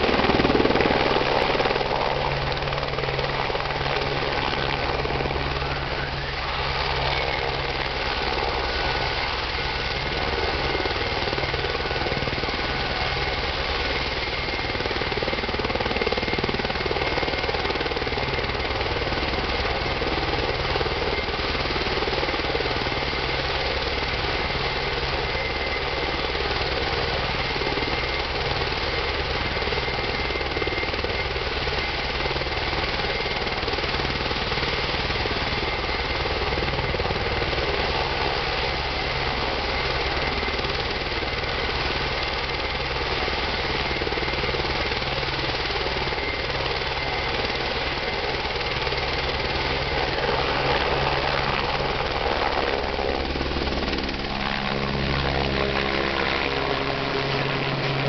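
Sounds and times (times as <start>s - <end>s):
helicopter turbine whine: 0.0s - 58.0s.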